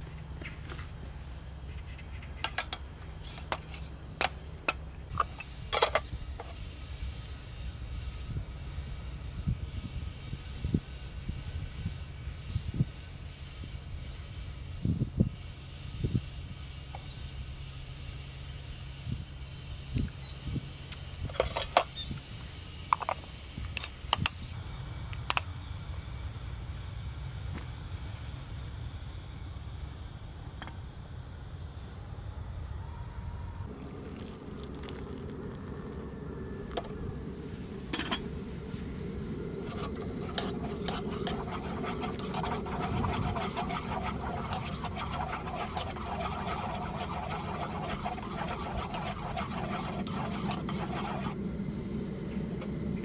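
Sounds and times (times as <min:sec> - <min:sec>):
low steady rumble: 0:00.0 - 0:53.0
steady low hum: 0:00.0 - 0:53.0.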